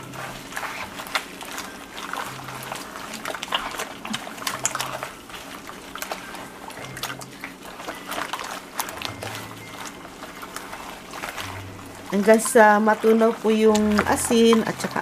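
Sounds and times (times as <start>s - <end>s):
hands kneading meat in marinade: 0.0s - 15.0s.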